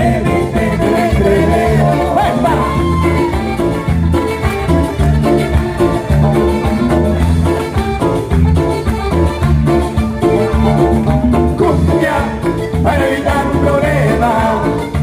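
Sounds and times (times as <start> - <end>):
live band over loudspeakers: 0.0 - 15.0.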